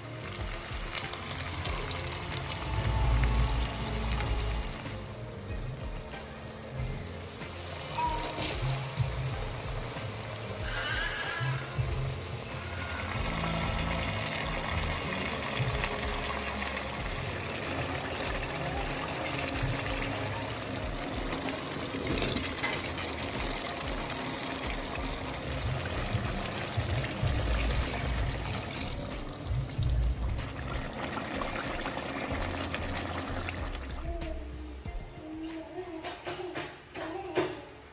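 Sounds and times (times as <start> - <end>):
curry bubbling and sizzling: 0.0 - 34.2.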